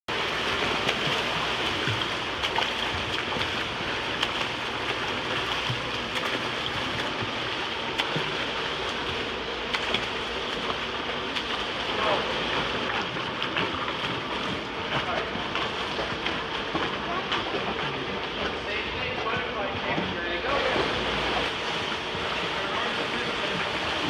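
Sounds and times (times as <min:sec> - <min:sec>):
water churning and splashing: 0:00.1 - 0:24.0.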